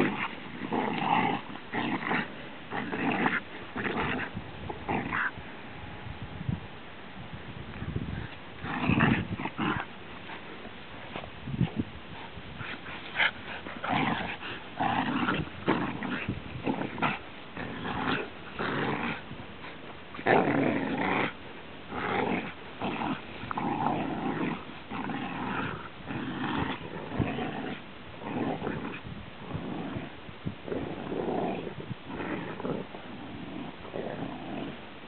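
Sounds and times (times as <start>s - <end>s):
dogs growling in play: 0.0s - 5.4s, 8.2s - 35.0s.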